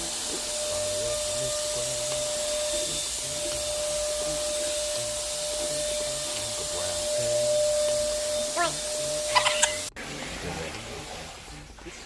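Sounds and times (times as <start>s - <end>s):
vacuum motor running: 0.0s - 11.3s.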